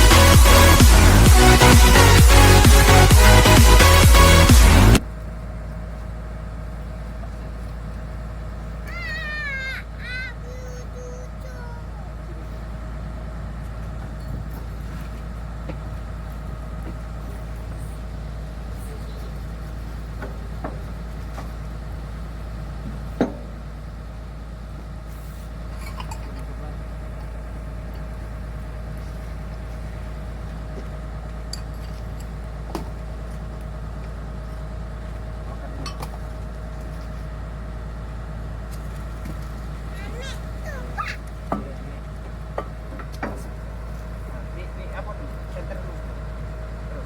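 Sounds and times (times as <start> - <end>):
excavator diesel engine idling: 0.0 - 47.0.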